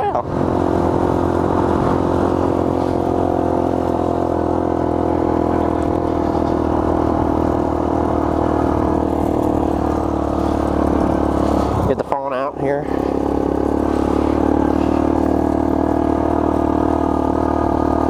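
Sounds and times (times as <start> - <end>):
minibike engine running: 0.0 - 18.0.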